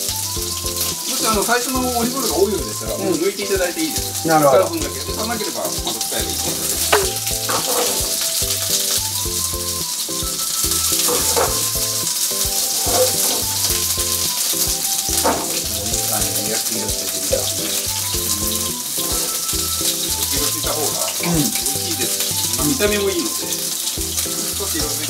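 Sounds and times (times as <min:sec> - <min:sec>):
background music: 0:00.0 - 0:25.0
food sizzling in oil: 0:00.0 - 0:25.0.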